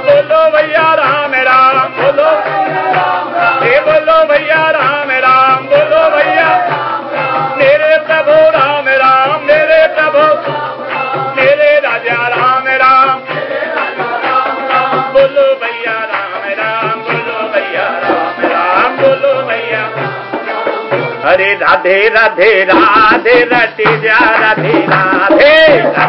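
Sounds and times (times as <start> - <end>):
person singing devotional melody: 0.0 - 26.0
steady drum beat: 0.0 - 26.0.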